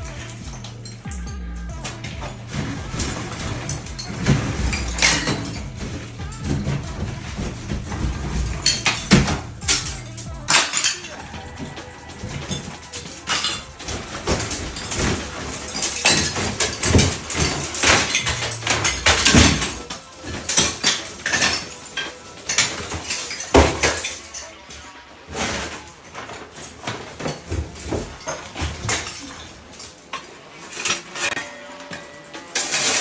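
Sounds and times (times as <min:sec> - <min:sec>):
ceramic tile smashing: 0:00.0 - 0:33.0
clattering shards: 0:00.0 - 0:33.0.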